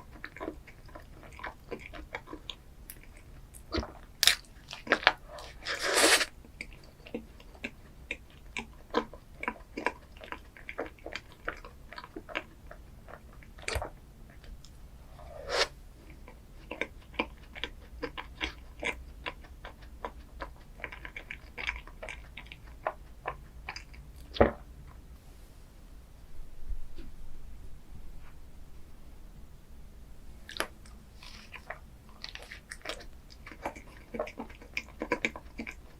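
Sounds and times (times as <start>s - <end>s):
chewing with crisp crunches: 0.0s - 14.8s, 16.0s - 25.0s, 30.4s - 35.9s.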